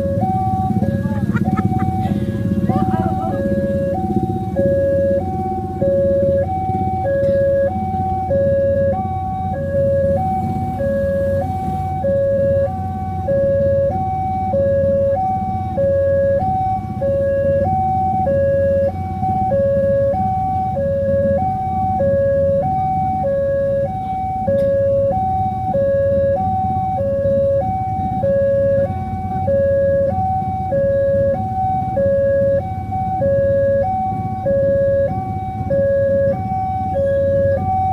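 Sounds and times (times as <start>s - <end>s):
two-tone crossing alarm: 0.0s - 37.9s.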